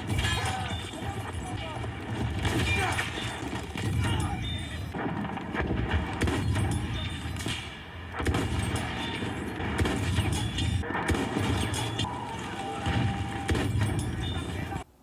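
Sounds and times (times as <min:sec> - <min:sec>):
gunshots and impacts: 0:00.0 - 0:14.8.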